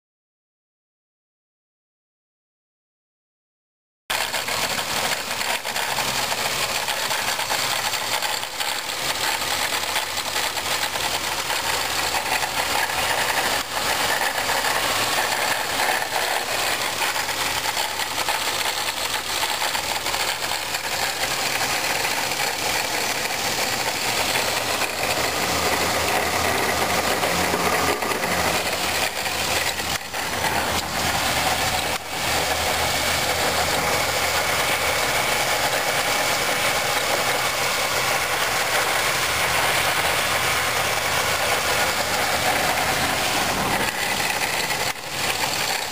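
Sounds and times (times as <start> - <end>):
car engine idling: 4.1 - 45.9
supercharger rattling and grinding: 4.1 - 45.9.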